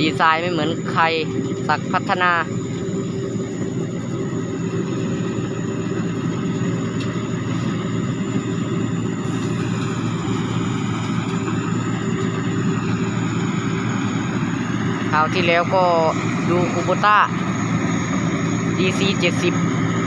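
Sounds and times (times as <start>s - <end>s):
combine harvester engine running: 0.0s - 20.0s
high whine: 0.0s - 20.0s.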